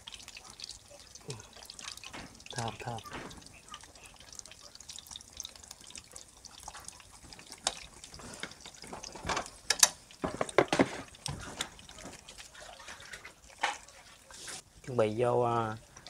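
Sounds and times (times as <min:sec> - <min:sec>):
oil popping and spitting: 0:00.0 - 0:14.9.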